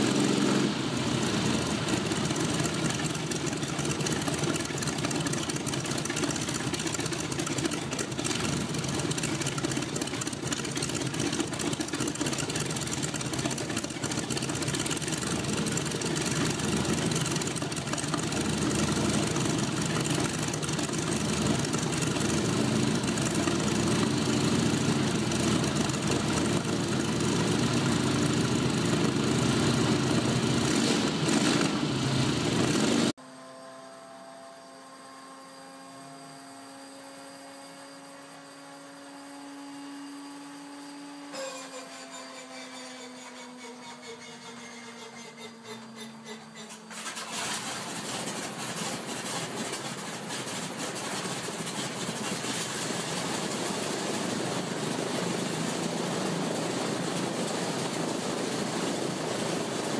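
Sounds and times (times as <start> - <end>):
aircraft engine idling: 0.0 - 33.2, 43.0 - 59.9.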